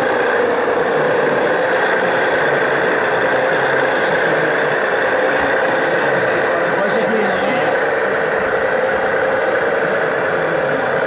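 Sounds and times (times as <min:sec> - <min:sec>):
model diesel engine idling: 0:00.0 - 0:11.0.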